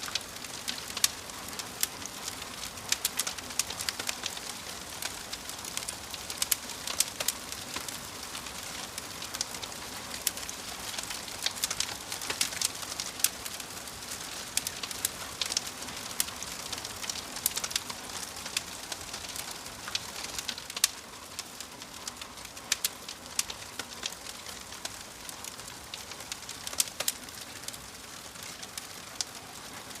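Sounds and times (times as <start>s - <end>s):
fire burning in fireplace: 0.0s - 30.0s.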